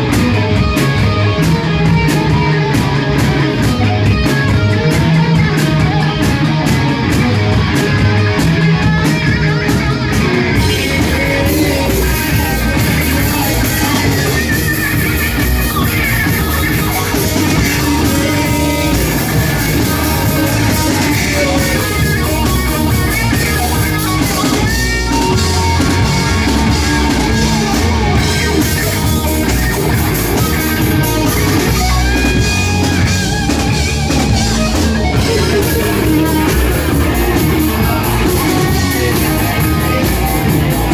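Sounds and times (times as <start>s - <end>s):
drum kit: 0.0s - 40.9s
electric guitars: 0.0s - 40.9s
rock band playing live: 0.0s - 40.9s.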